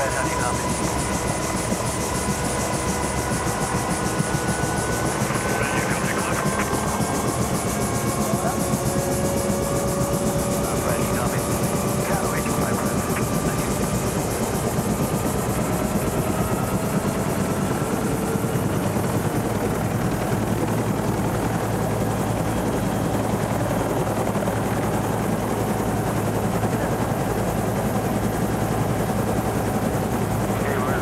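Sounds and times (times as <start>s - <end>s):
helicopter turbine and rotor noise: 0.0s - 31.0s.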